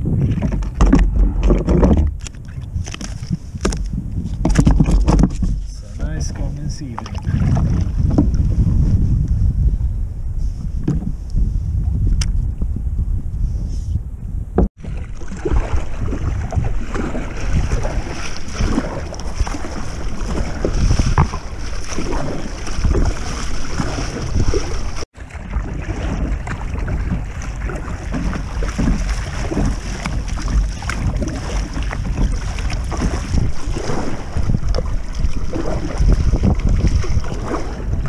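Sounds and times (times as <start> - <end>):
water splashing against kayak: 0.0 - 9.3, 14.6 - 38.0
wind rumble on microphone: 0.0 - 38.0.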